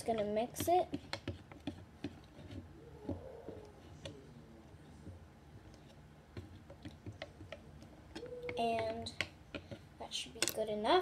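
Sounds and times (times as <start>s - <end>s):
stick stirring in container: 0.0s - 10.0s.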